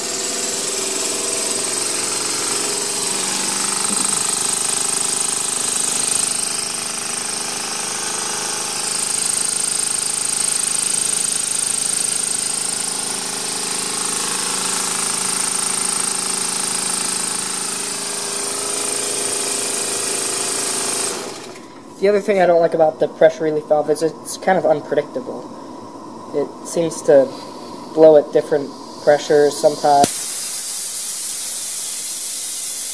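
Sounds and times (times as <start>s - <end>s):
steam hissing: 0.0s - 22.2s, 26.8s - 32.9s
small steam engine running: 0.0s - 22.6s, 28.0s - 32.9s.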